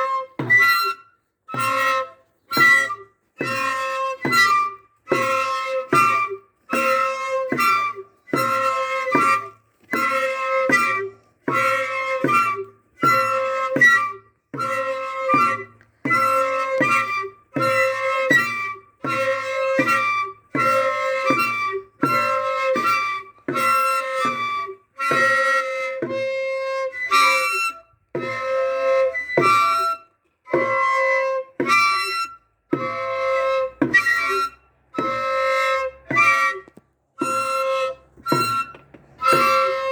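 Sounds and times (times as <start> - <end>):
cane flutes blown in short blasts: 0.0 - 39.9.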